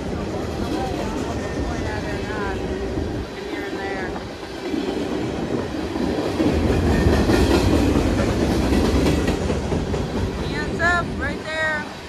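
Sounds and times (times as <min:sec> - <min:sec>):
freight cars rolling on rails: 0:00.0 - 0:12.0.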